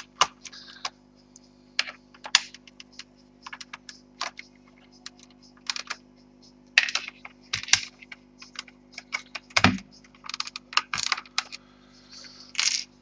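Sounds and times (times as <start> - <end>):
small parts clicking and tapping: 0.0 - 6.0, 6.8 - 11.6, 12.2 - 13.0.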